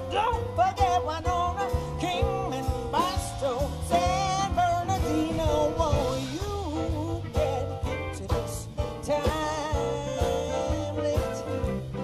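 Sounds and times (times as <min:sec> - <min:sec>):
blues band playing: 0:00.0 - 0:12.0.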